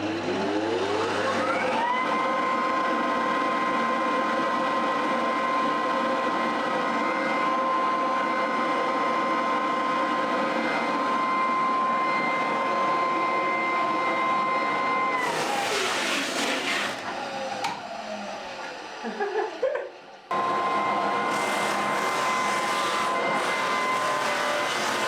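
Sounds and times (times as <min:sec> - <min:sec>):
floor sanding machine whining: 0:00.6 - 0:25.0.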